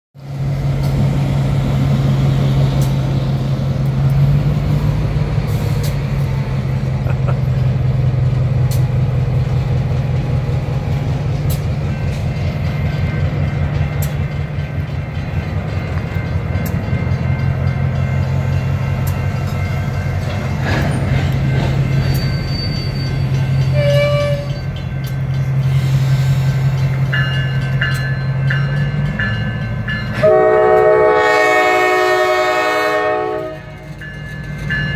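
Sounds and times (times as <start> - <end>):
locomotive engine droning: 0.2 - 34.9
wheels clicking on rail: 2.4 - 30.9.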